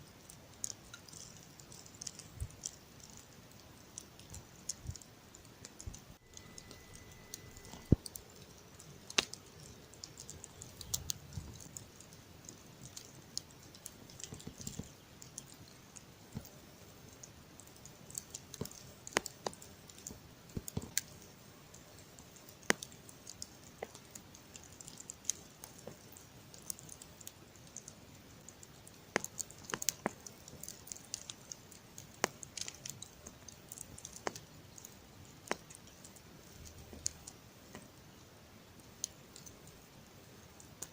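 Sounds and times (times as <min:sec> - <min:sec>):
campfire crackling: 0:00.0 - 0:40.9
faint steady hiss: 0:00.0 - 0:40.9.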